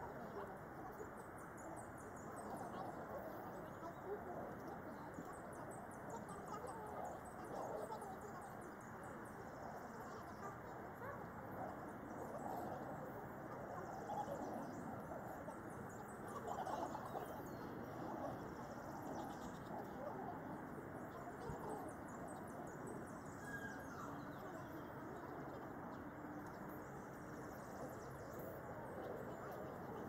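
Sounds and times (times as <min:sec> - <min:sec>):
faint outdoor background noise: 0:00.0 - 0:30.0.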